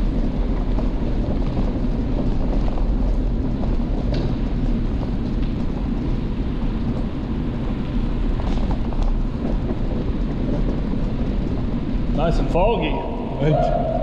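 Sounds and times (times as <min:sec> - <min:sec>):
bicycle tyres on wet trail: 0:00.0 - 0:14.0.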